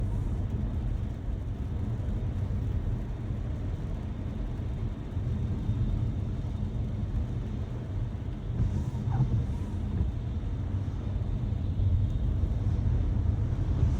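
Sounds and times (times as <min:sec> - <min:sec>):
car engine and tyre rumble: 0:00.0 - 0:13.9.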